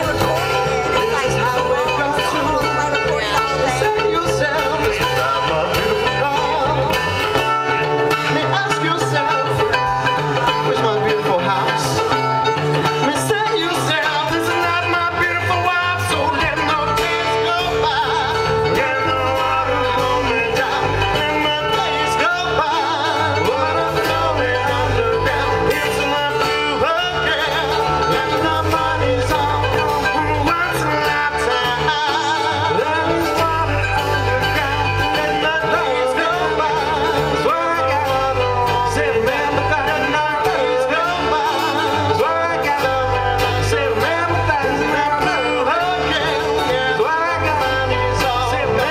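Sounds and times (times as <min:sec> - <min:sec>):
bass guitar: 0:00.0 - 0:48.9
man singing: 0:00.0 - 0:48.9
mandolin: 0:00.0 - 0:48.9
strummed acoustic guitar: 0:00.0 - 0:48.9.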